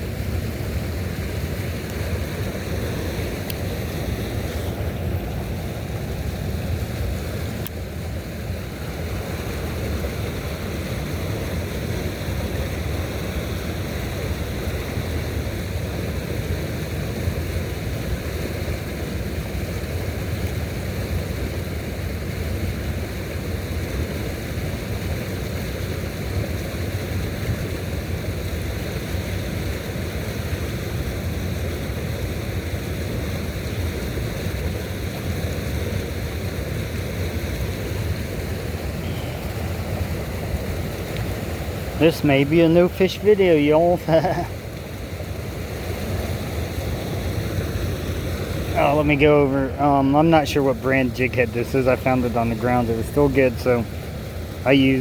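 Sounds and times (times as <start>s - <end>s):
rushing outdoor noise with low rumble: 0.0s - 55.0s.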